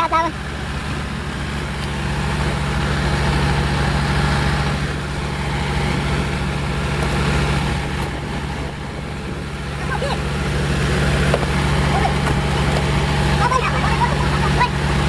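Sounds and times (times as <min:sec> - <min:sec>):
diesel truck engines running: 0:00.0 - 0:15.0.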